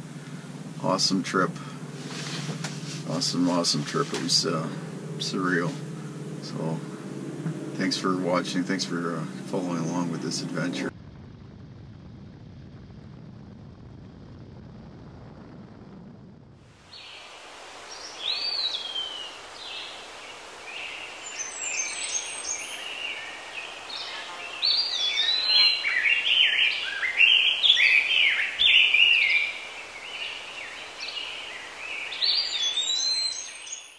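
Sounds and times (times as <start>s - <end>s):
songbirds singing: 0.0s - 10.9s, 16.9s - 33.9s
steady background hiss: 0.0s - 11.0s, 16.7s - 33.9s.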